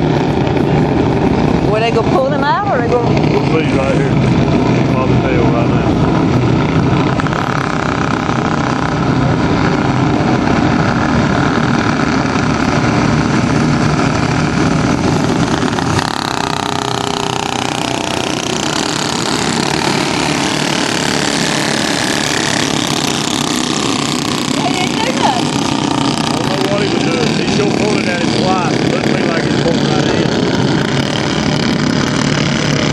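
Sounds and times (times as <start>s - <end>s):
race car engines at high revs: 0.0s - 32.9s.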